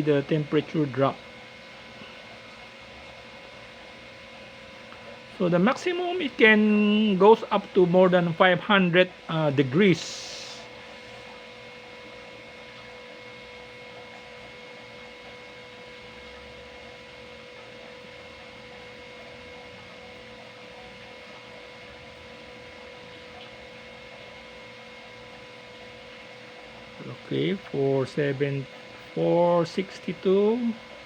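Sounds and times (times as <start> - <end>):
electrical hum: 0.0 - 31.0
faint constant whine: 0.0 - 31.0.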